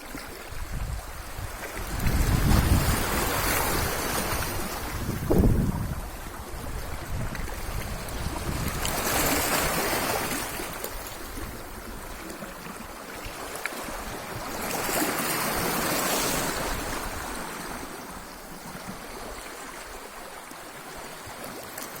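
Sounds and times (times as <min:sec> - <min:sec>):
waves washing onto shore: 0:00.0 - 0:22.0.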